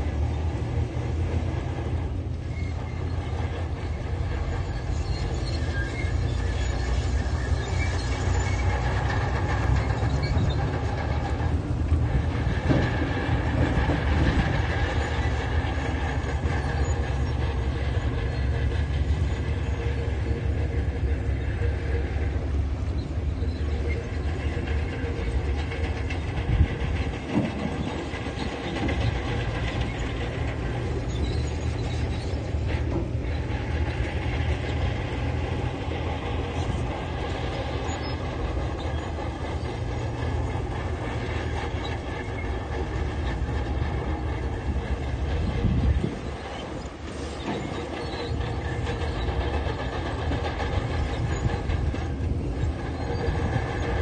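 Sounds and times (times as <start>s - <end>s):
earthmoving machinery diesel engine: 0.0s - 54.0s.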